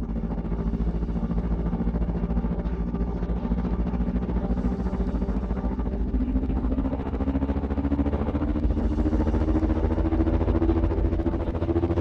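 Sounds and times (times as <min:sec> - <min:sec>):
low pulsing suspense drone: 0:00.0 - 0:12.0.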